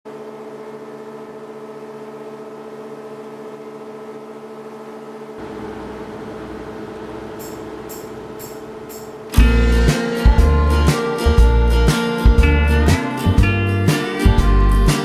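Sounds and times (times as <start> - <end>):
steady mechanical hum: 0.1 - 14.9.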